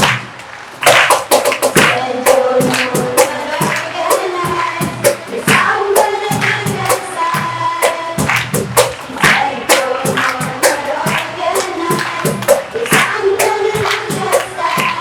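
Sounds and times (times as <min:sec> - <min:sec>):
percussive beat: 0:00.0 - 0:15.0
voices singing: 0:00.0 - 0:15.0.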